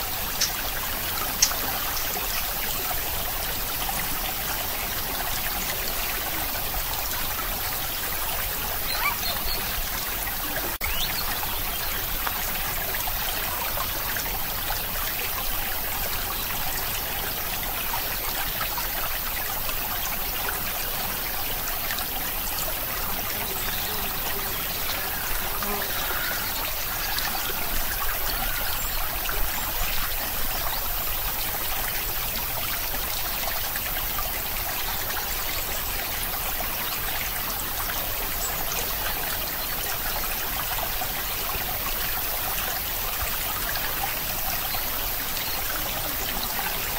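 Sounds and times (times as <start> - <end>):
trickling water: 0.0 - 46.9.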